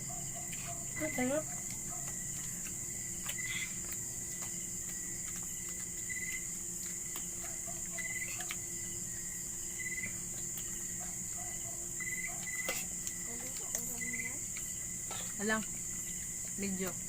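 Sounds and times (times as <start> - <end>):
insects trilling: 0.0 - 17.0
low steady hum: 0.0 - 17.0.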